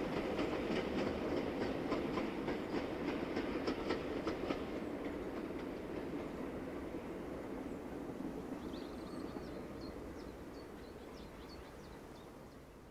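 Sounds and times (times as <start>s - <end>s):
train rumbling: 0.0s - 12.4s.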